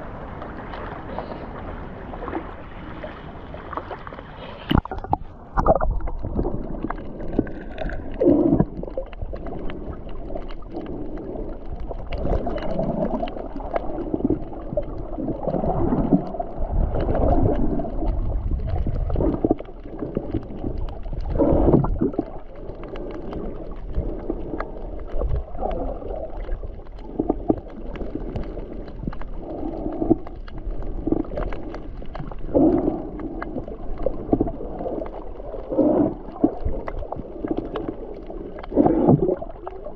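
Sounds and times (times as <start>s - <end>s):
low rumble of wind or water: 0.0s - 39.9s
water sloshing and gurgling: 0.0s - 39.9s.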